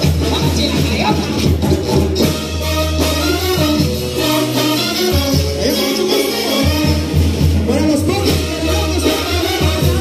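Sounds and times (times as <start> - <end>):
brass band playing: 0.0 - 10.0.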